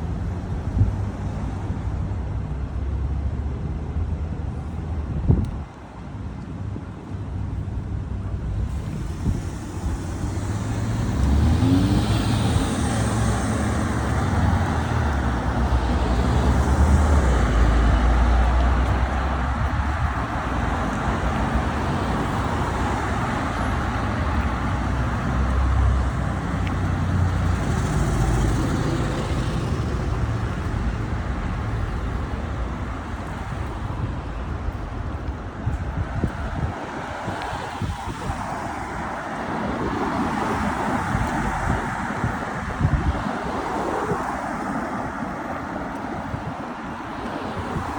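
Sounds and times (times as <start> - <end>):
cars passing: 0.0 - 6.2, 6.9 - 47.9.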